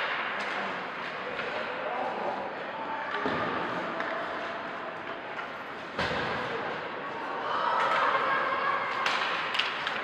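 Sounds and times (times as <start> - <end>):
crowd voices: 0.0 - 10.0.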